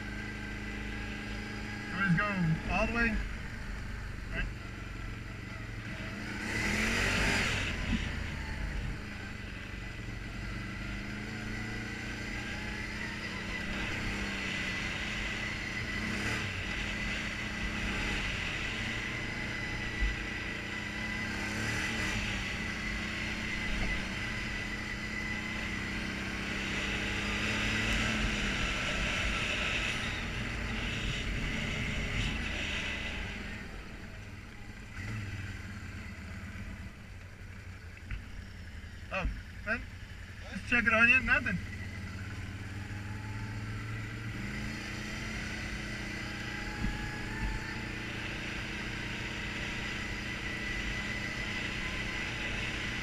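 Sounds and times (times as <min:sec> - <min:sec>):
atv engine revving: 0:00.0 - 0:53.0
wind and tyre noise: 0:00.0 - 0:53.0.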